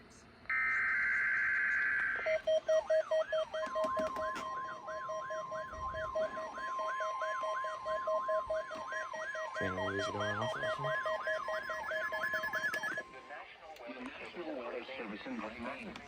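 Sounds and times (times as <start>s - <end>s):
harsh buzzing data tone: 0.5s - 13.7s
rapidly pulsing beep: 0.5s - 15.8s.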